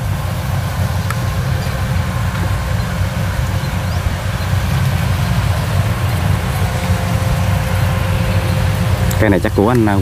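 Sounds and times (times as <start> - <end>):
distant combine harvester engine hum: 0.0 - 10.0.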